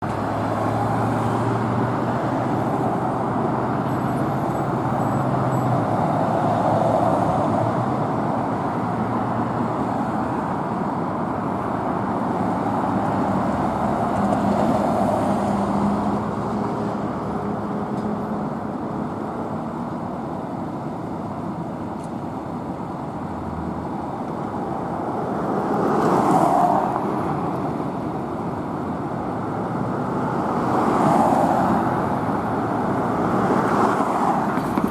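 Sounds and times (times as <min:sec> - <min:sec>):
vehicles passing: 0:00.0 - 0:34.9.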